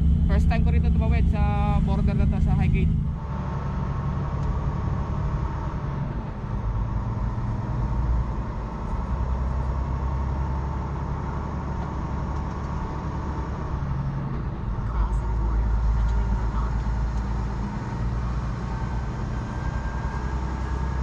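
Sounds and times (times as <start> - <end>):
road noise: 0.0 - 21.0
truck engine hum: 0.0 - 21.0.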